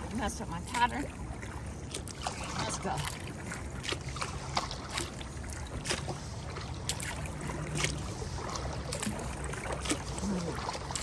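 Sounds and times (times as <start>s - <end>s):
steady low rumble: 0.0s - 11.0s
paddle splashing into water: 0.6s - 11.0s.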